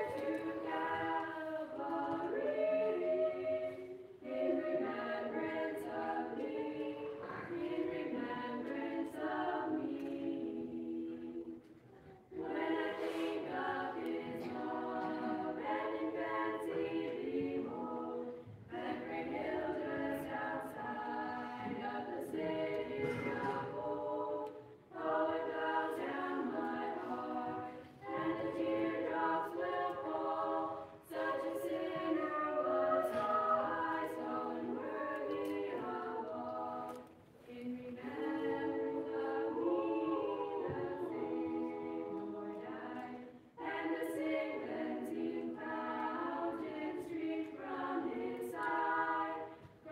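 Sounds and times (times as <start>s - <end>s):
children's choir singing a cappella: 0.0s - 49.9s.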